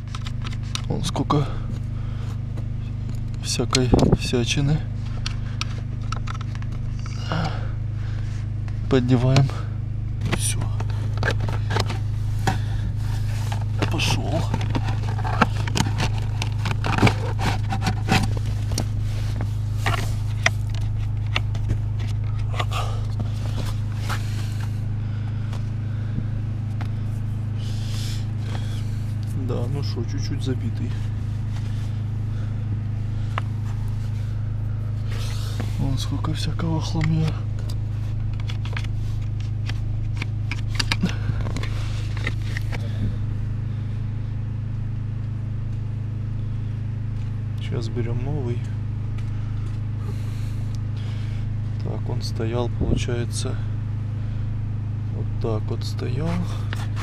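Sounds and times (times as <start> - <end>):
air filter scraping and rustling: 0.0 - 43.8, 49.2 - 51.9, 56.2 - 57.0
steady low hum: 0.0 - 57.0.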